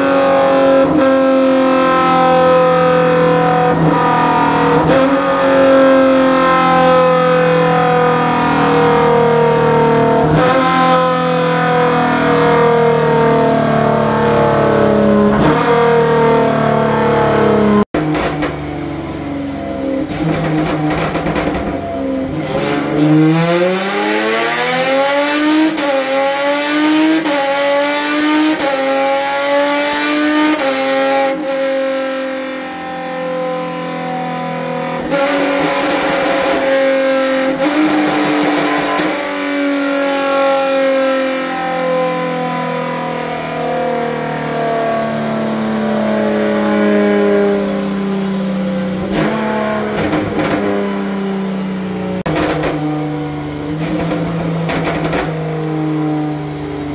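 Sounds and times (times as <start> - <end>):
race car engine revving: 0.0 - 56.9
quick gear upshifts: 2.2 - 32.1, 33.5 - 56.9.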